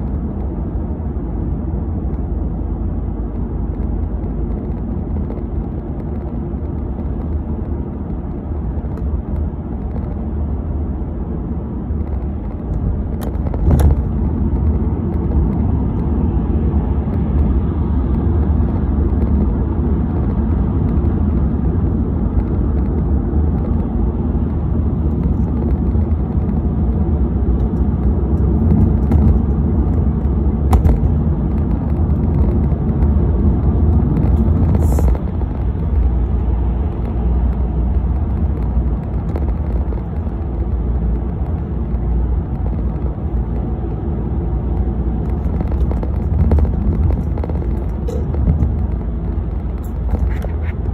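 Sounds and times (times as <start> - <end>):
car road and engine rumble: 0.0 - 50.9.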